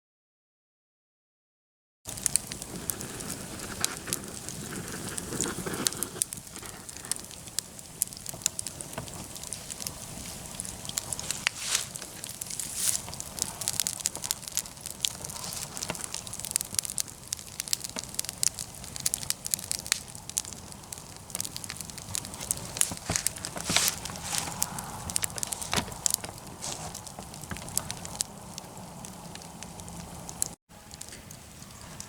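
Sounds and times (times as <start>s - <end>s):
campfire crackling and popping: 2.1s - 32.0s
fire hiss: 2.1s - 32.0s.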